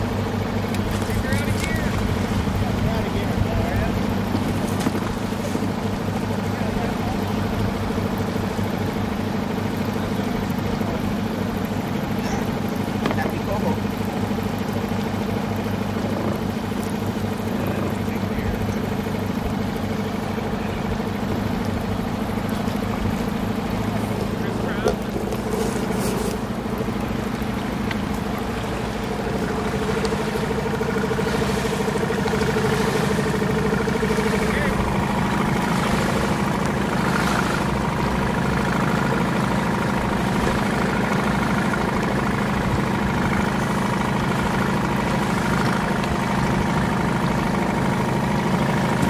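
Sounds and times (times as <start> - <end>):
boat motor running: 0.0 - 49.0.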